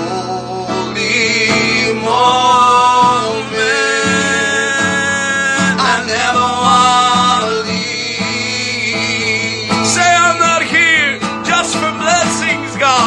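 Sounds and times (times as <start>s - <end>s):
instrumental backing: 0.0s - 13.0s
man singing worship song: 0.0s - 13.0s.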